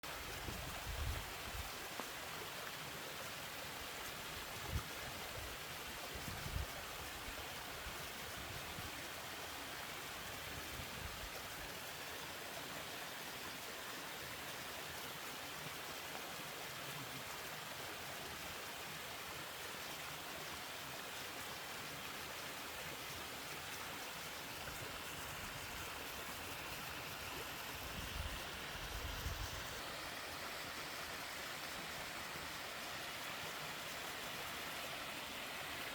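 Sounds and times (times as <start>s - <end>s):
waterfall pouring and splashing: 0.0s - 35.9s.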